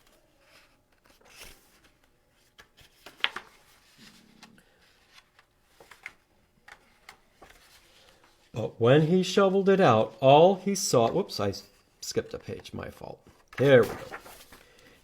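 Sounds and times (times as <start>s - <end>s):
book pages turning: 0.0s - 11.4s, 12.4s - 15.0s.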